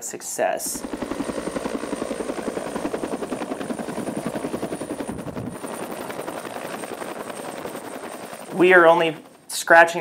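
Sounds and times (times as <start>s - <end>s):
helicopter rotor blades beating: 0.4s - 10.0s.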